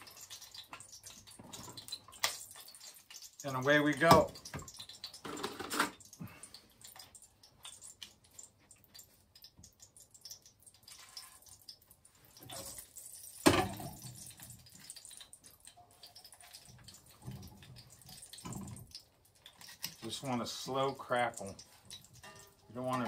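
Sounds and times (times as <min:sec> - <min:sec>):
pork chops frying in skillet: 0:00.0 - 0:23.0.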